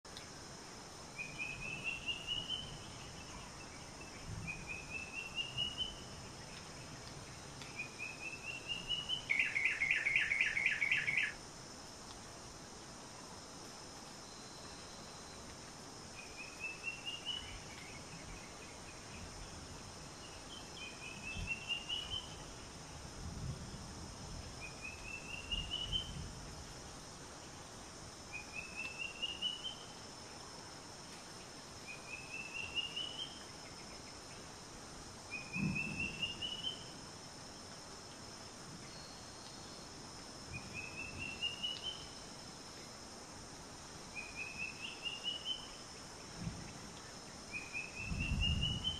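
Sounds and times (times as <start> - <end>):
outdoor hiss: 0.0 - 48.9.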